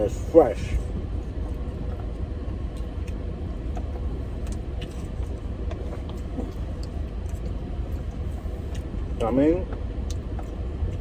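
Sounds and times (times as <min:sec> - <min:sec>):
air conditioning running: 0:00.0 - 0:11.0
car idling: 0:00.0 - 0:11.0.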